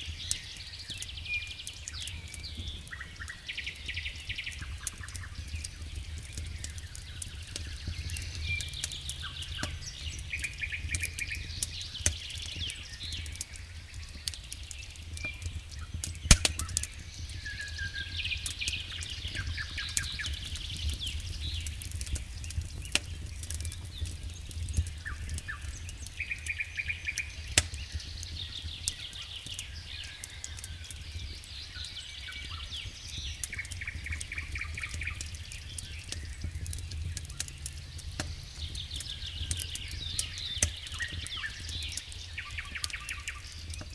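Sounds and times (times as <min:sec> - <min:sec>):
campfire crackling and popping: 0:00.0 - 0:43.9
small birds chirping: 0:00.0 - 0:43.9.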